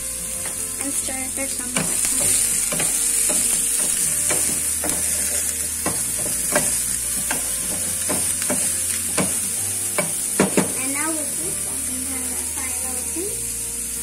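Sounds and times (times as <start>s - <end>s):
vegetables sizzling in oil: 0.0s - 14.0s
wooden spatula scraping pan: 0.1s - 11.9s.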